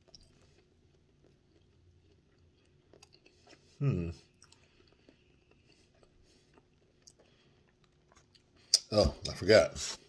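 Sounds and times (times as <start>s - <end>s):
man chewing: 0.0s - 8.9s.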